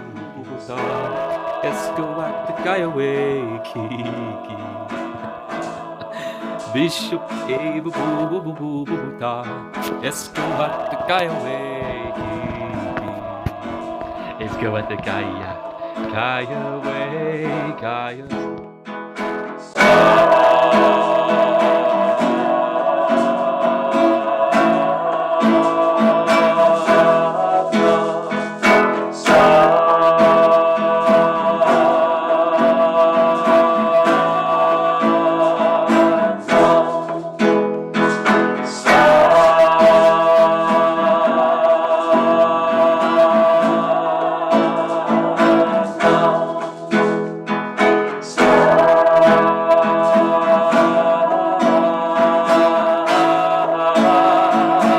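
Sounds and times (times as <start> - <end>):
person singing: 0.0 - 18.6, 19.3 - 54.9
acoustic guitar plucked and strummed: 0.0 - 54.9.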